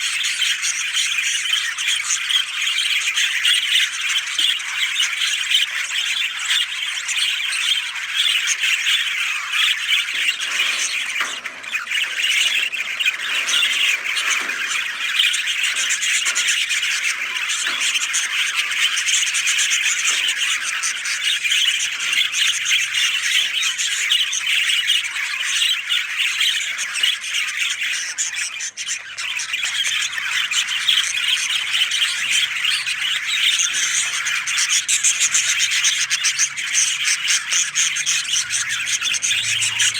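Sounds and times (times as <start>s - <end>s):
many birds squawking and chirping: 0.0s - 39.9s.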